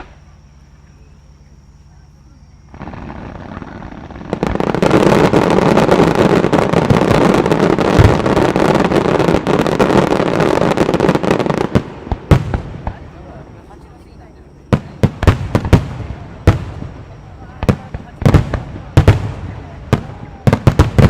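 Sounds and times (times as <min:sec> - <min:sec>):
fireworks bangs and crackling: 0:00.0 - 0:00.8, 0:02.6 - 0:21.0.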